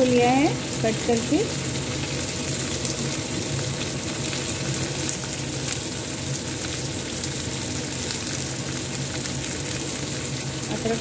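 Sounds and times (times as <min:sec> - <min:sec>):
onions frying in hot oil: 0:00.0 - 0:11.0.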